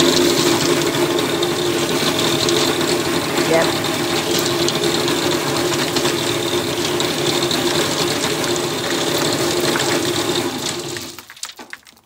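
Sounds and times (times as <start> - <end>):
cement mixer motor hum: 0.0 - 11.3
charcoal rattling in steel drum: 0.0 - 12.0.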